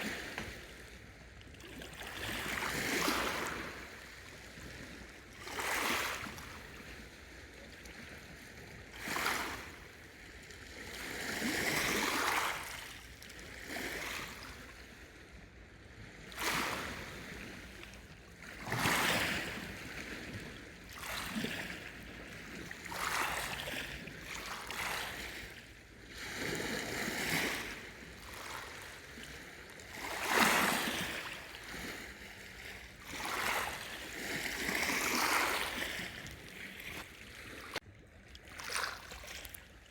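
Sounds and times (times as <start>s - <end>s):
lake waves washing ashore: 1.7s - 4.4s, 5.3s - 7.0s, 8.9s - 10.1s, 10.8s - 15.0s, 16.2s - 39.9s.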